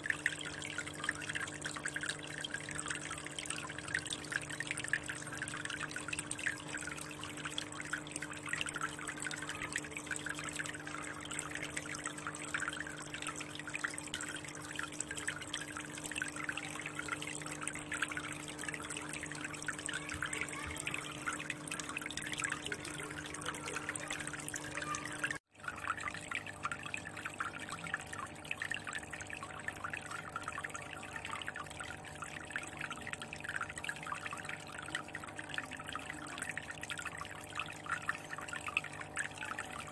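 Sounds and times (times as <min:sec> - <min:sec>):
faint steady hum: 0:00.0 - 0:39.9
water trickling into fish tank: 0:00.0 - 0:39.9.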